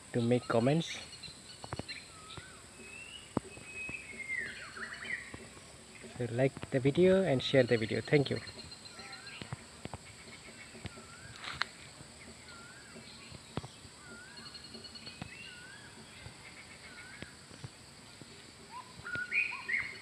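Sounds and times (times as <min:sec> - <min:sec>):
bird whistle calls: 0:00.0 - 0:06.3, 0:07.3 - 0:17.5, 0:18.6 - 0:20.0
steady high-pitched hum: 0:00.0 - 0:20.0
thin rapid bird trills: 0:00.0 - 0:20.0.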